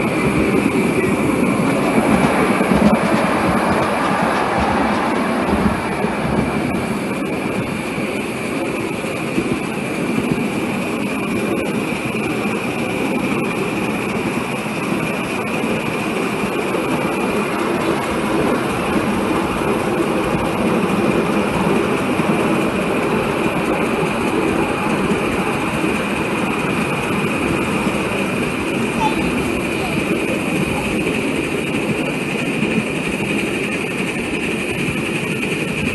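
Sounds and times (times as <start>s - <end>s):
model steam locomotive running: 0.0s - 35.9s
wheels rolling on rails: 0.0s - 35.9s.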